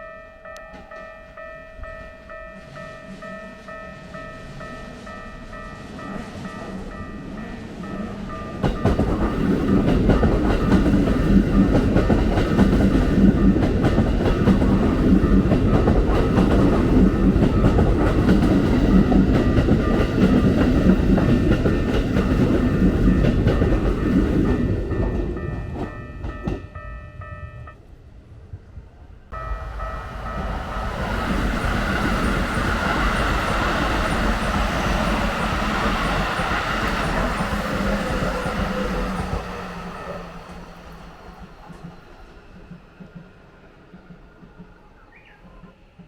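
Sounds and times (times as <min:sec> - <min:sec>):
level crossing warning bell: 0:00.0 - 0:27.8, 0:29.3 - 0:40.8
train wheels clattering on rails: 0:00.6 - 0:27.5, 0:29.3 - 0:46.0.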